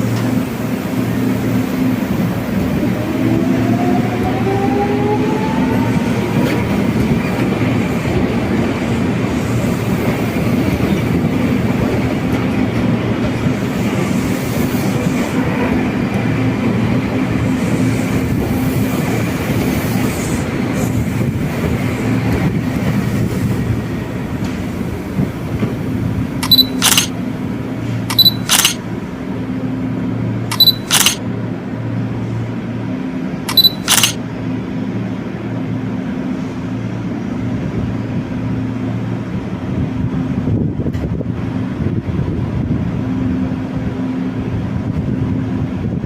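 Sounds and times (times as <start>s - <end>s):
rising train whine: 0.0s - 46.0s
train running on rails: 0.0s - 46.0s.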